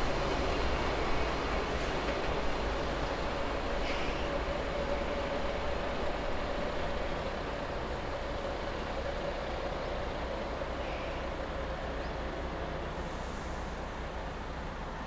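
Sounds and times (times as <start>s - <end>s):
distant train rumbling: 0.0s - 15.0s
faint train whine: 0.0s - 15.0s.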